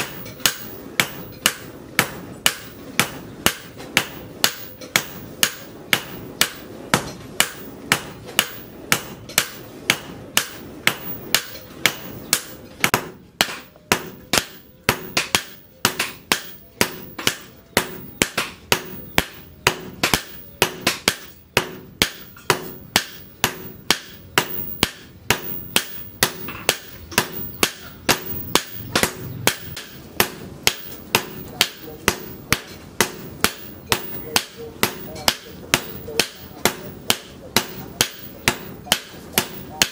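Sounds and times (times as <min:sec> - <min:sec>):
hammer striking hot steel on anvil: 0:00.0 - 0:39.9.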